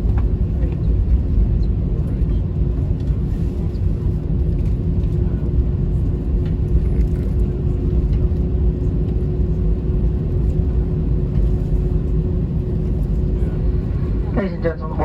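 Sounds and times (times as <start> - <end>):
low rumble of engines and wheels: 0.0 - 15.0.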